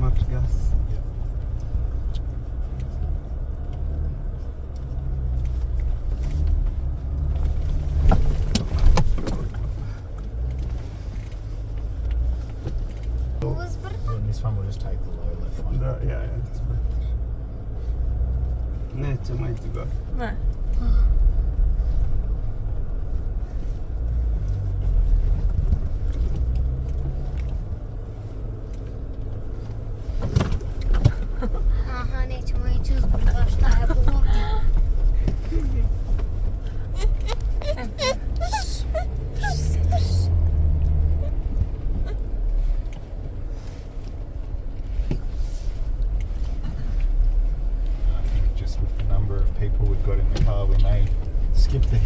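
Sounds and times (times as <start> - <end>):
car engine rumbling: 0.0 - 52.0.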